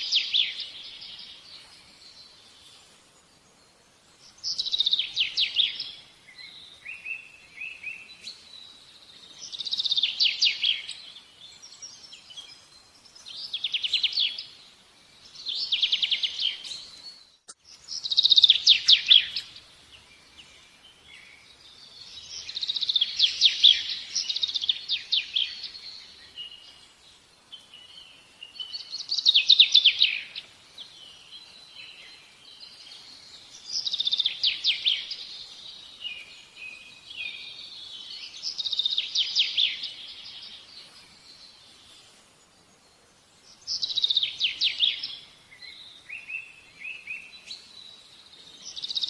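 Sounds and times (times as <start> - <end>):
soft bird chirps: 0.0 - 49.0
bird singing trilled phrases: 4.2 - 41.8, 42.8 - 49.0.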